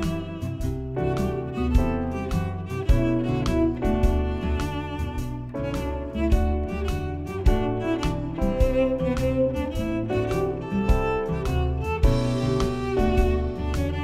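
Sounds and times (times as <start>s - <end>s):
bowed strings: 0.0s - 14.0s
steady beat: 0.0s - 14.0s.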